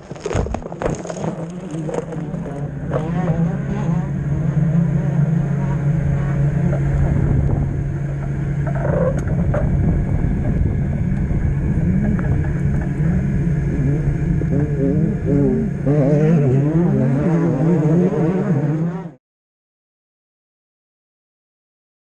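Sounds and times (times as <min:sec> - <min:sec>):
race car engine revving: 0:00.2 - 0:19.2.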